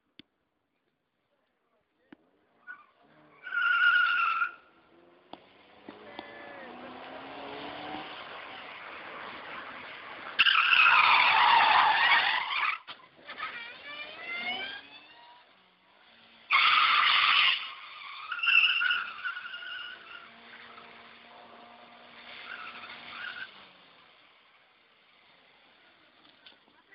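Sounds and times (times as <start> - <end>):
car engine revving: 2.4 - 26.9
tyres skidding and squealing: 2.4 - 26.9.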